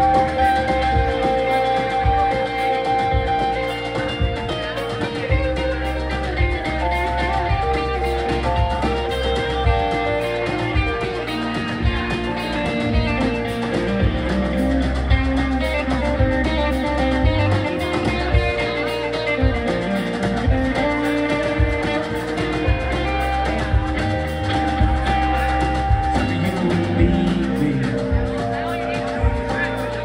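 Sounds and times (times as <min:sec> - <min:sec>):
bass line: 0:00.0 - 0:30.0
drum kit beat: 0:00.0 - 0:30.0
electric guitar: 0:00.0 - 0:30.0
keyboards: 0:00.0 - 0:30.0.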